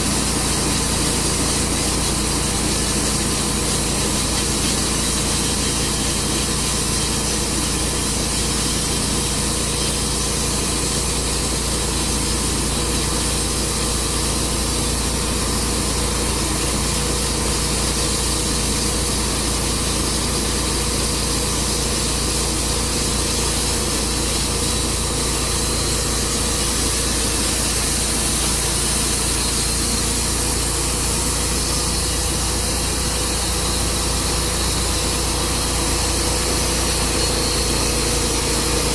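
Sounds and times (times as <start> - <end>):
saw blade cutting log: 0.0 - 38.9
sawmill engine running: 0.0 - 38.9.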